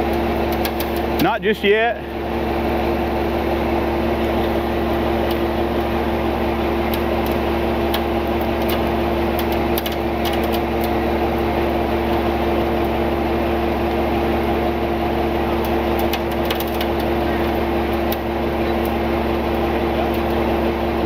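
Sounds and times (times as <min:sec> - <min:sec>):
tow truck engine running: 0:00.0 - 0:21.0
winch drive whine: 0:00.0 - 0:21.0.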